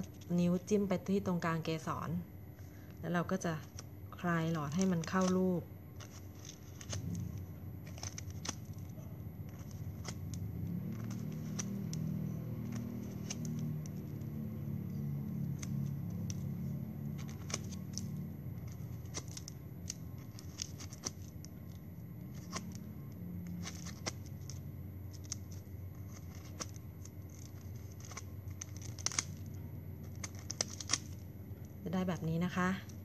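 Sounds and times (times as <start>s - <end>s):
plastic straws clicking and crackling: 3.6s - 31.3s.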